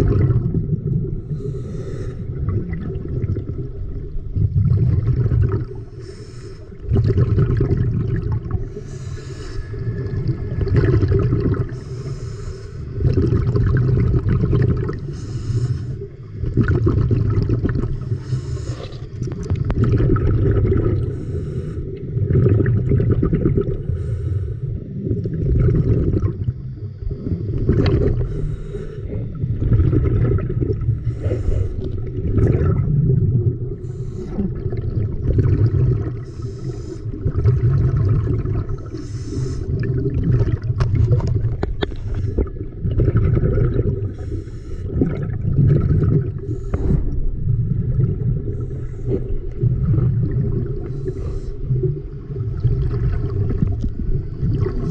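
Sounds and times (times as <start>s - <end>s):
muffled underwater rumble: 0.0s - 54.9s.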